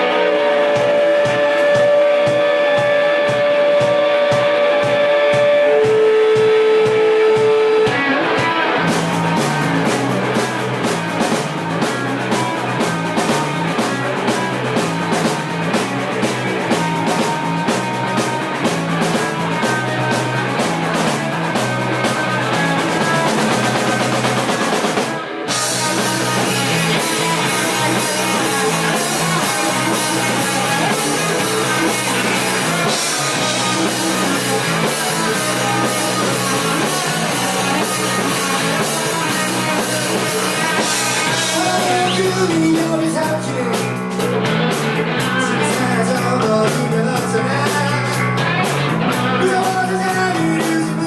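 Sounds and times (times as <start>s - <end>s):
live rock band: 0.0s - 51.0s.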